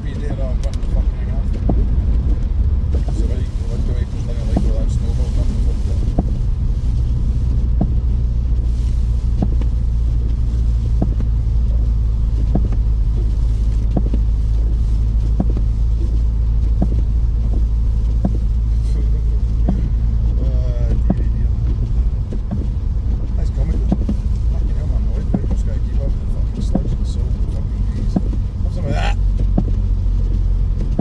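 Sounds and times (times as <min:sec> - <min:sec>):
car engine and tyre drone: 0:00.0 - 0:31.0.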